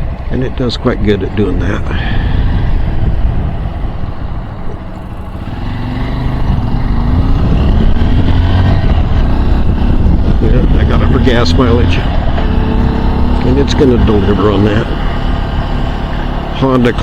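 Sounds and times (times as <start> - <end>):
motorcycle engine accelerating: 0.0 - 17.0
wind rumble on microphone: 0.0 - 17.0.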